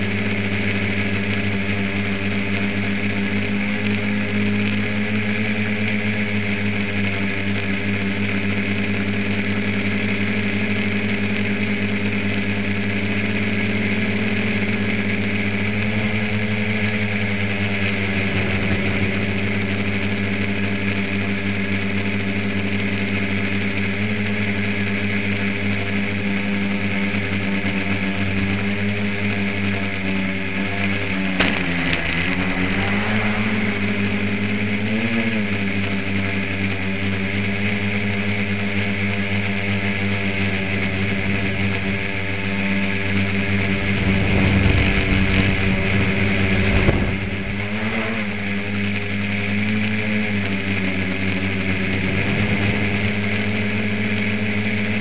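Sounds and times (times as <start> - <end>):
drone propellers buzzing: 0.0 - 55.0.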